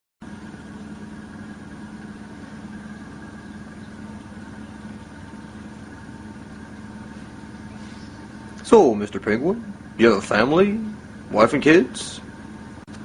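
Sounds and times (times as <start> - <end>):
machine hum with held tones: 0.2 - 13.0.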